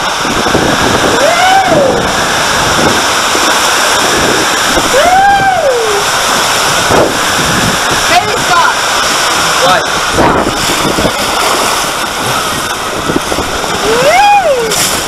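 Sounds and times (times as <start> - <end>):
water rushing in slide tube: 0.0 - 15.0.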